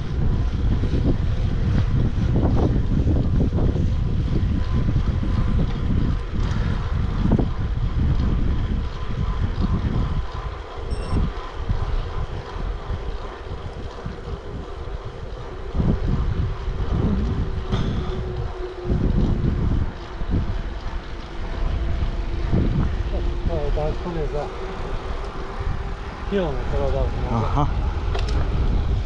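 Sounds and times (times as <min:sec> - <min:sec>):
road noise rumbling: 0:00.0 - 0:29.0
wind buffeting microphone: 0:00.0 - 0:29.0.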